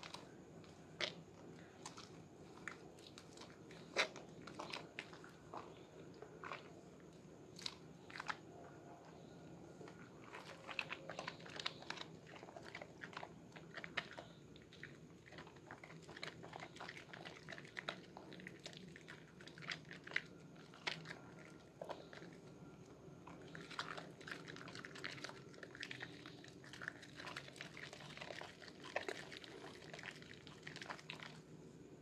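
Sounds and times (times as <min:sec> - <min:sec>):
wet hands rubbing soap: 0:00.0 - 0:22.8, 0:23.4 - 0:31.5.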